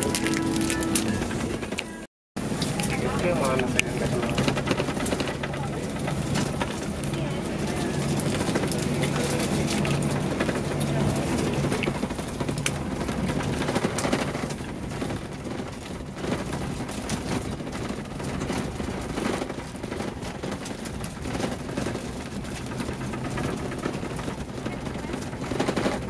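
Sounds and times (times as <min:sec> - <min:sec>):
low engine drone: 0:00.0 - 0:26.0
road and tyre noise: 0:00.0 - 0:26.0.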